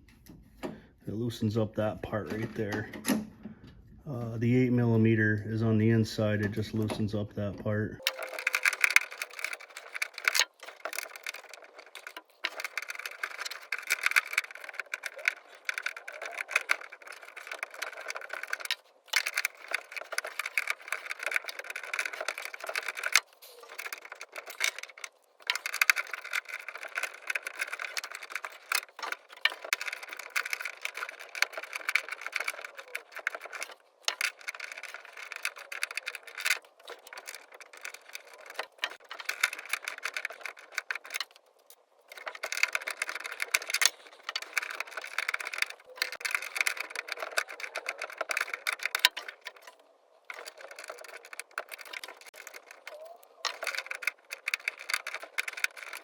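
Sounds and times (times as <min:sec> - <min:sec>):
metallic clicking and rattling: 0:08.0 - 0:56.0.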